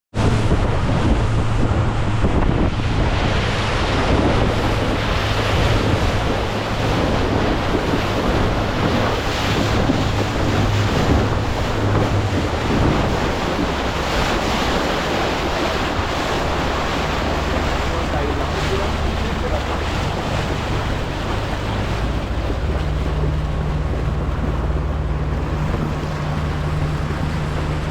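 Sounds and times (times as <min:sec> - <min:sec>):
low engine hum: 0:00.1 - 0:27.9
water rushing past boat: 0:00.1 - 0:27.9
wind buffeting microphone: 0:00.2 - 0:27.9.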